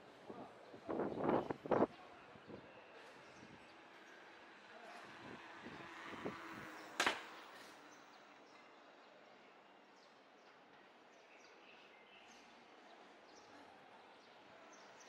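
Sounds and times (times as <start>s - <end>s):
faint city street background: 0.0s - 15.0s.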